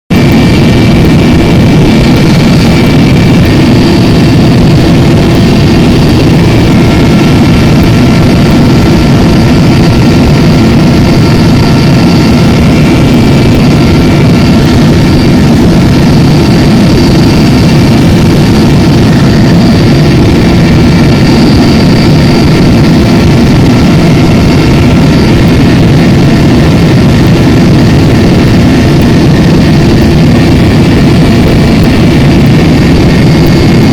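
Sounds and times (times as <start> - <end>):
helicopter engine and rotor drone: 0.0 - 33.9
thin steady whining tones: 0.2 - 33.9.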